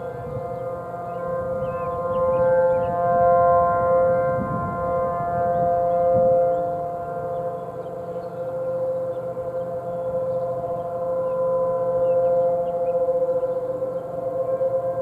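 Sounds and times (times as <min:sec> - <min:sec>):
warning sirens steady tone: 0:00.0 - 0:15.0.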